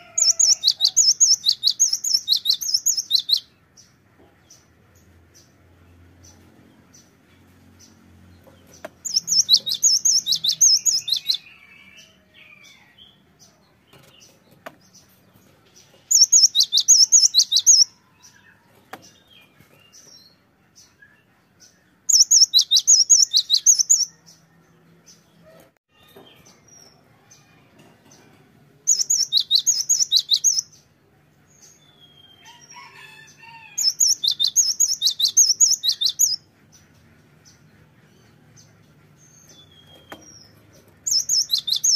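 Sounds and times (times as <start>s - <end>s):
soft bird chirps: 0.0s - 5.6s, 6.2s - 41.9s.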